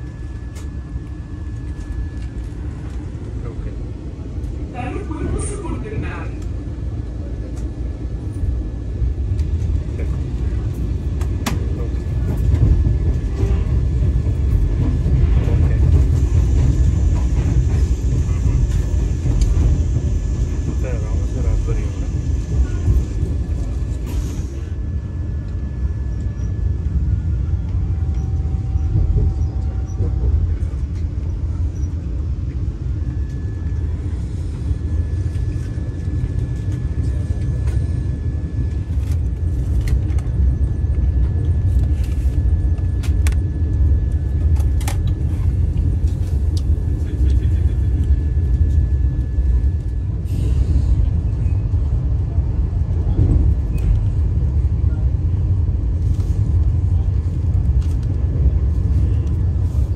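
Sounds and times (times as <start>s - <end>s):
electric train low rumble: 0.0s - 59.9s.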